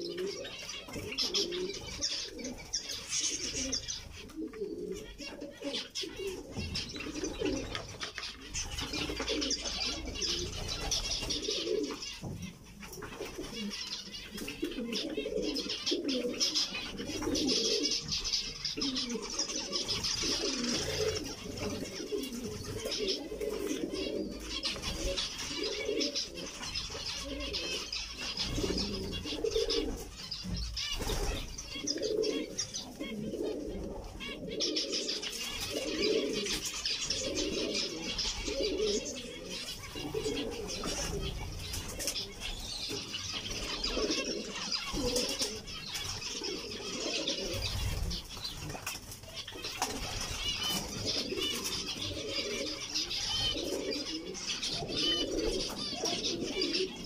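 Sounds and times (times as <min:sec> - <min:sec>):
low repeated bird call: 0:00.0 - 0:57.0
zebra finches chattering: 0:00.0 - 0:57.0.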